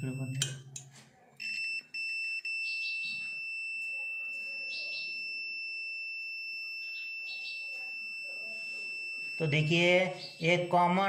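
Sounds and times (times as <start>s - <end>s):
multimeter continuity beep: 0.0s - 0.8s, 1.4s - 11.0s.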